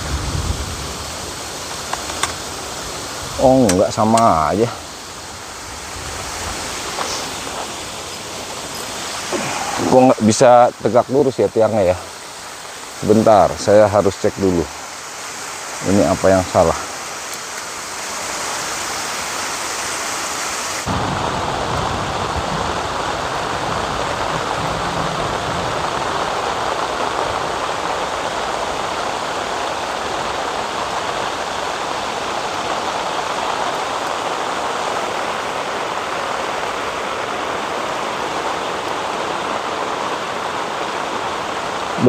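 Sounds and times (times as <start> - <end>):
rain on tent fabric: 0.0 - 42.0.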